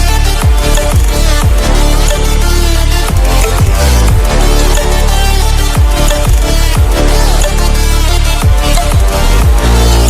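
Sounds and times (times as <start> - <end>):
dubstep music: 0.0 - 10.0.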